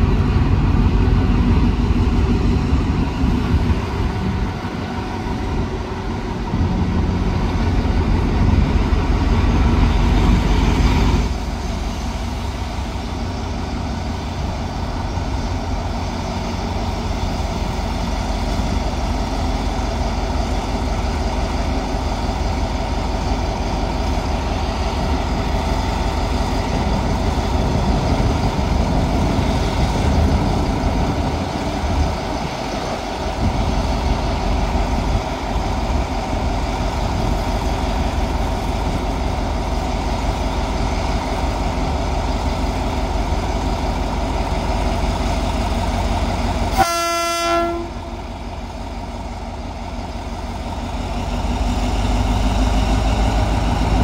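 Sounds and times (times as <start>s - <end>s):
locomotive engine rumbling: 0.0s - 54.0s.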